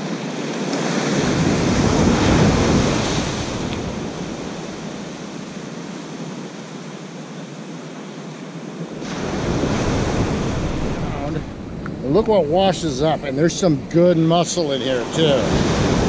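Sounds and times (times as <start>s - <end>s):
ocean wave breaking on sand: 0.0s - 16.0s.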